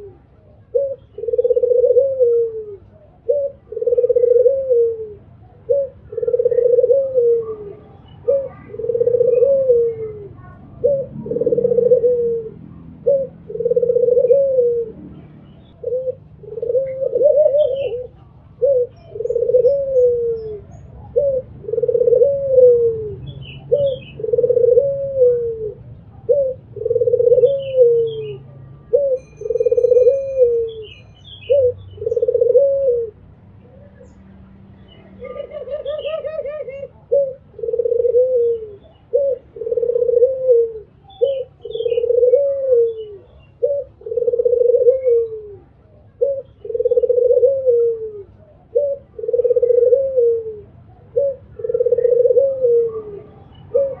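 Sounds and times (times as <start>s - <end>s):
dove cooing: 0.0s - 34.2s, 34.9s - 54.0s
small birds chirping: 0.0s - 54.0s.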